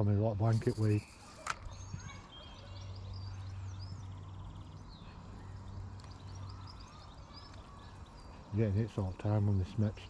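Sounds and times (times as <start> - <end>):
small birds singing: 0.0 - 10.0.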